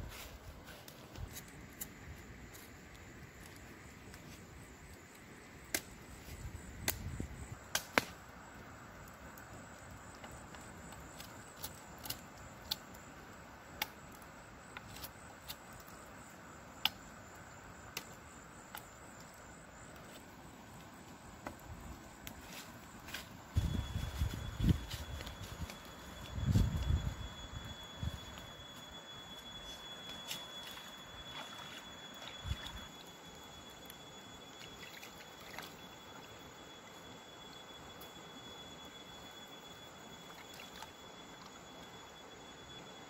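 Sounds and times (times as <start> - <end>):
outdoor background hiss: 0.0 - 43.0.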